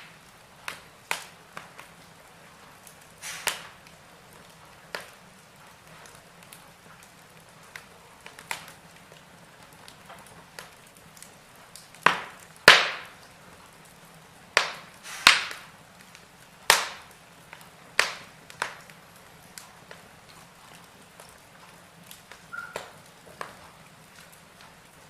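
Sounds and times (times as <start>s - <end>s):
fire crackling: 0.0s - 25.0s
sharp pops of burning wood: 0.0s - 25.0s.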